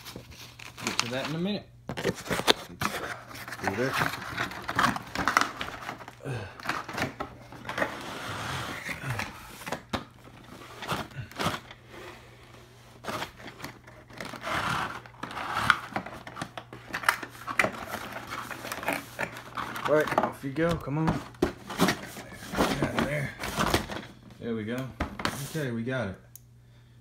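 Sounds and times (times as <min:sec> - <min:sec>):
cardboard and plastic rustling: 0:00.0 - 0:25.7.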